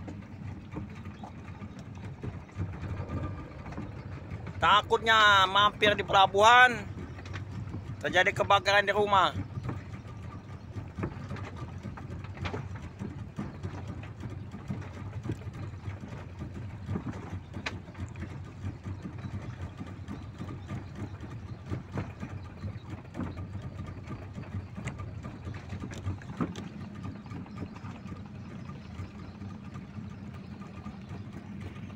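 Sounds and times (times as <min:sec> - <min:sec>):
boat engine idling: 0:00.0 - 0:31.9.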